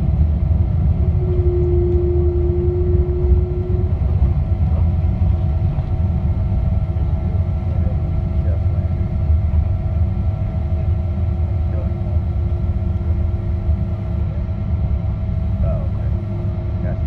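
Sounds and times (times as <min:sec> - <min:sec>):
jet engines and wheels rumbling: 0:00.0 - 0:17.0
steady whine: 0:00.0 - 0:17.0.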